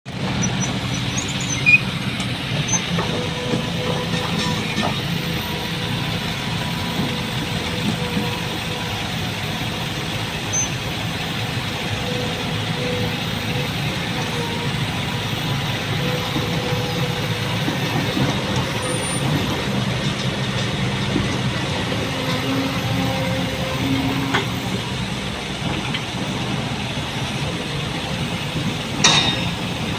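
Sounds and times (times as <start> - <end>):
diesel engine droning: 0.1 - 29.9.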